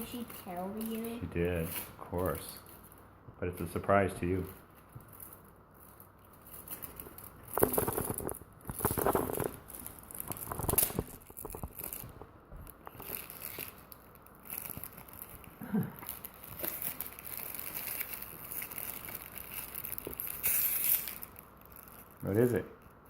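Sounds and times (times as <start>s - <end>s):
wrapping paper crinkling and tearing: 0.0s - 22.6s.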